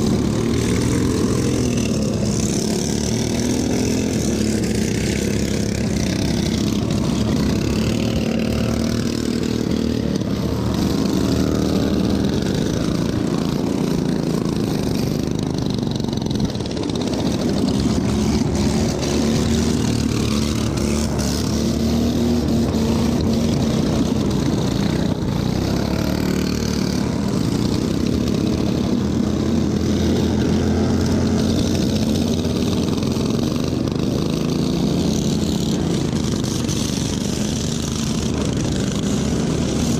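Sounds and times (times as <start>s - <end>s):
small engine running hard: 0.0s - 39.9s.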